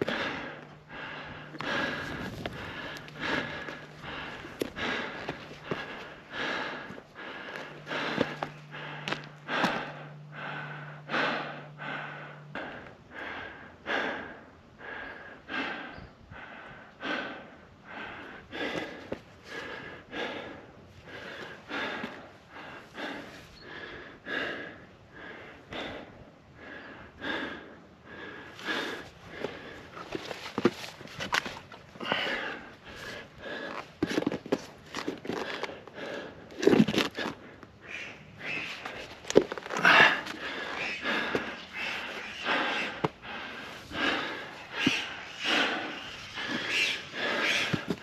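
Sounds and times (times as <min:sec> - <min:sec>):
person breathing hard: 0:00.0 - 0:48.0.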